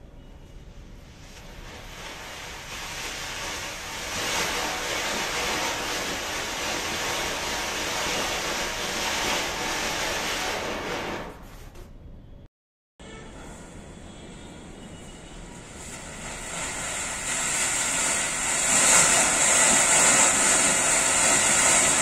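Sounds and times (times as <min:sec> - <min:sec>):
firework fountain hissing: 0:01.0 - 0:11.4, 0:14.5 - 0:22.0.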